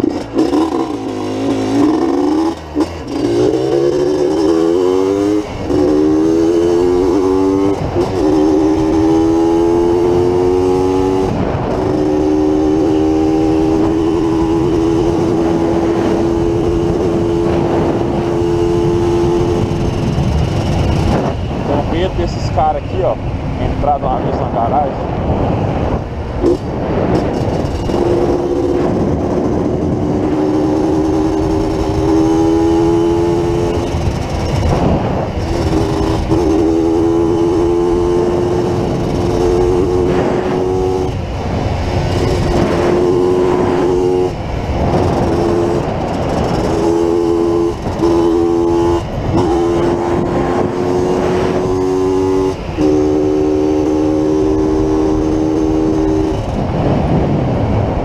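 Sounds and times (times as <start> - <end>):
two-stroke engine buzzing: 0.0 - 58.0.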